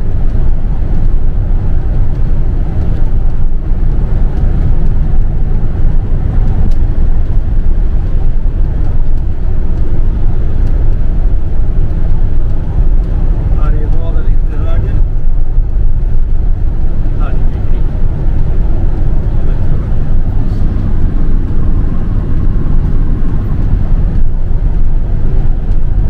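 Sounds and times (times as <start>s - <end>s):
engine and tyre rumble: 0.0s - 26.0s.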